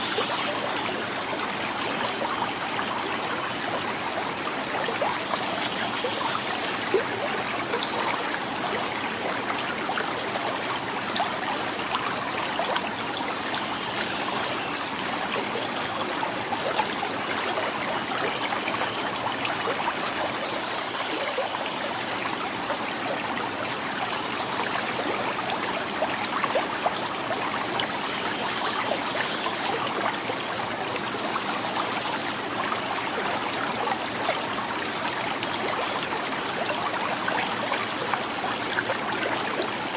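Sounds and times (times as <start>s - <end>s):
river water gurgling over rocks: 0.0s - 39.9s.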